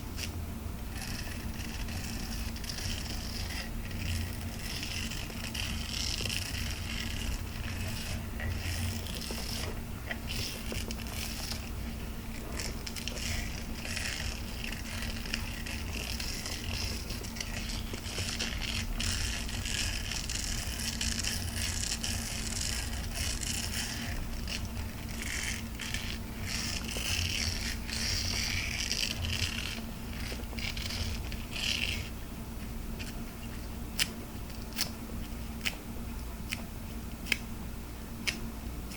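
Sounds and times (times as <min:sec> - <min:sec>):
faint electrical hum: 0:00.0 - 0:38.9
scratchy rustling and scraping: 0:00.9 - 0:32.2.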